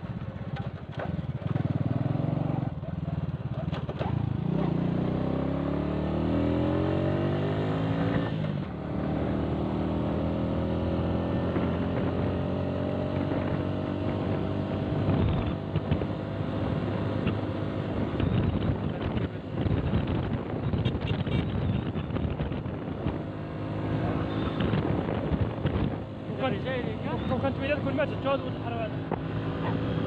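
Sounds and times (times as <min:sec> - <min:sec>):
rushing wind and road noise: 0:00.0 - 0:30.0.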